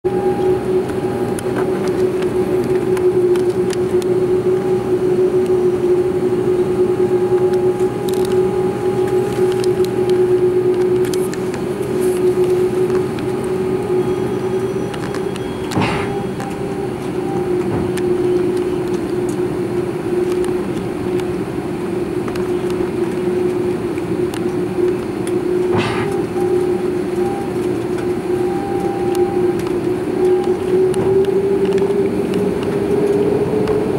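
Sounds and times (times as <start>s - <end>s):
jet engines at low thrust: 0.0s - 33.9s.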